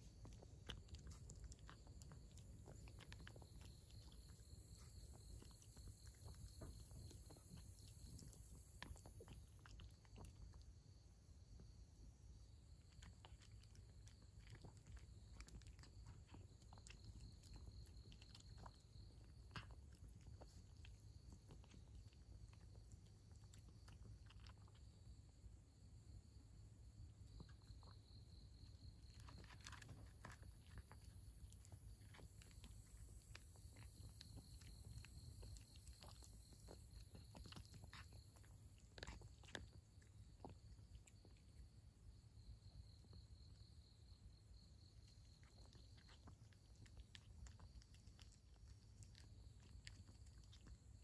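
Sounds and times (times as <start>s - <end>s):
cat chewing and crunching food: 0.0s - 51.0s.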